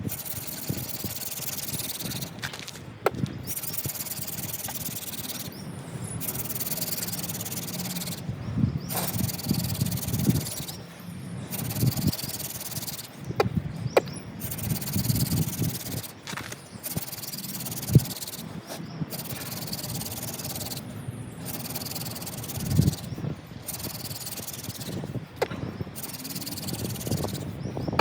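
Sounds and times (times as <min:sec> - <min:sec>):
wood grinding on wood: 0:00.0 - 0:08.3, 0:08.9 - 0:28.0.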